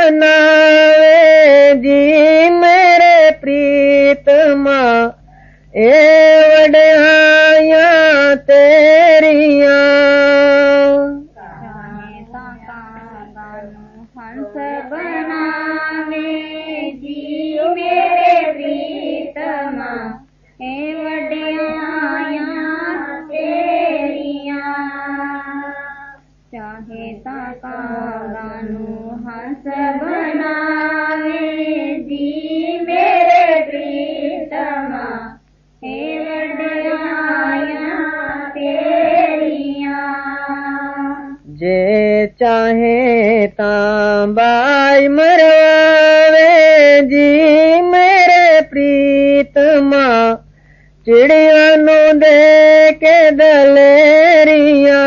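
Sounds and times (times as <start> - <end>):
person singing devotional song: 0.0 - 55.0.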